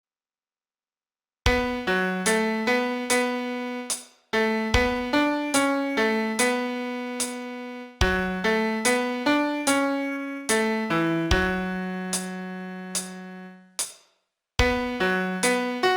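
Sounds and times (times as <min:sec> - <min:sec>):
slow piano melody: 0:01.5 - 0:13.6, 0:14.6 - 0:15.9.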